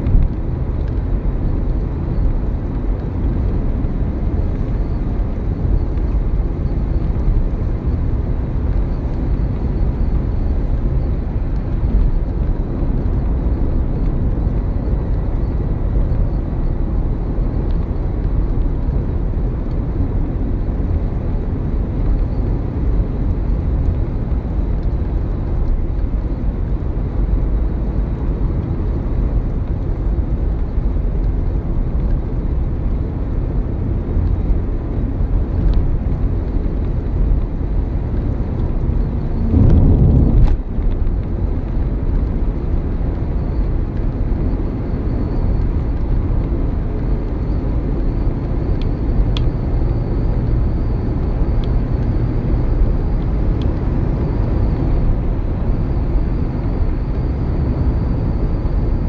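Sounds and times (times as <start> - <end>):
car road and engine noise: 0.0 - 59.0
rumble: 0.0 - 59.0.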